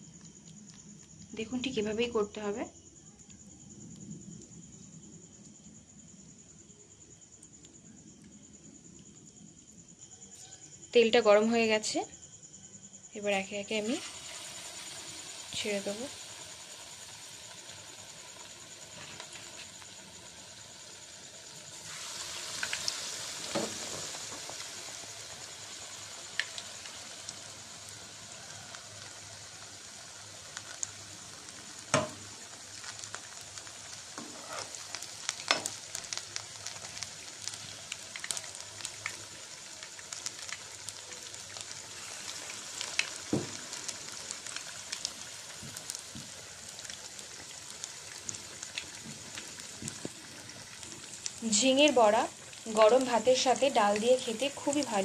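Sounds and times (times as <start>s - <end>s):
deep-frying sizzle with crackles: 0.0s - 55.0s.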